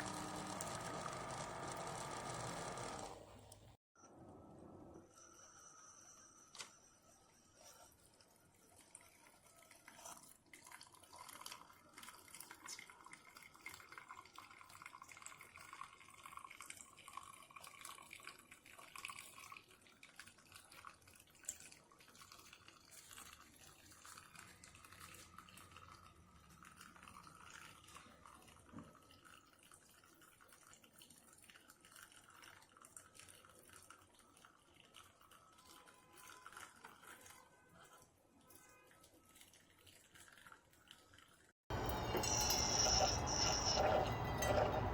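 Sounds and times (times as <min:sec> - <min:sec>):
coffee maker dripping water: 0:00.0 - 0:03.6, 0:07.5 - 0:44.9.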